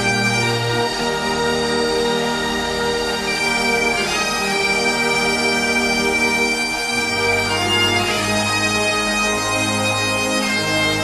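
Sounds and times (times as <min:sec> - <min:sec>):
bagpipes playing a melody: 0:00.0 - 0:11.0.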